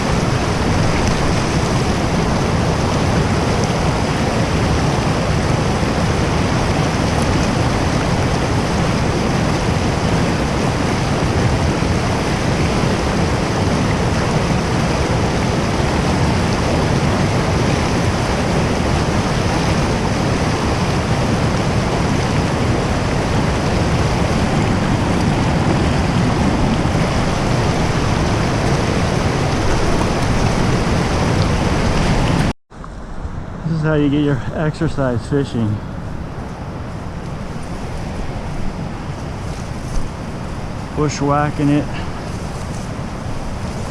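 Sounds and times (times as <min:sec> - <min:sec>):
water rushing over rocks: 0:00.0 - 0:32.5, 0:33.9 - 0:43.9.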